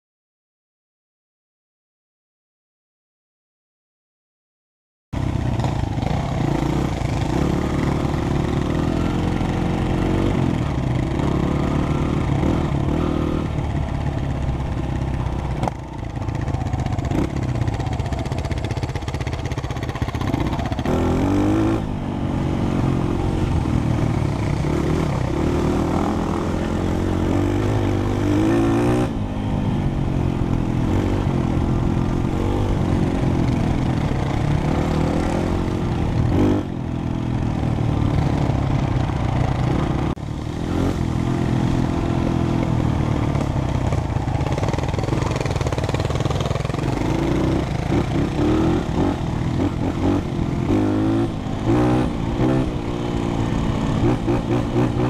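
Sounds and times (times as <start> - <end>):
dirt bike engines revving: 5.2 - 55.0.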